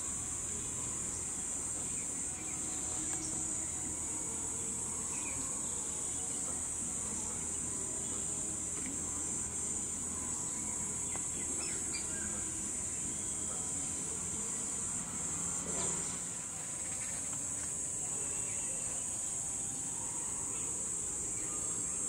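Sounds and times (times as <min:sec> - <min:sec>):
insect high-pitched drone: 0:00.0 - 0:22.0.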